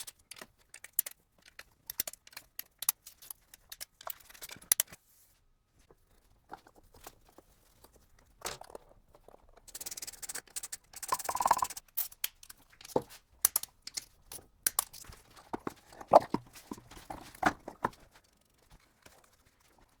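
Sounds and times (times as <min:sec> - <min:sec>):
metal parts clicking and knocking: 0:00.0 - 0:05.0, 0:08.2 - 0:19.3.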